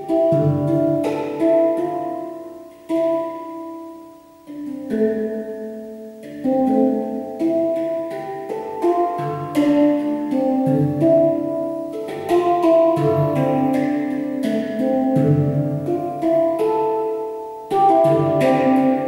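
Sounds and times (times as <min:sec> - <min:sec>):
handpan melody: 0:00.0 - 0:19.0.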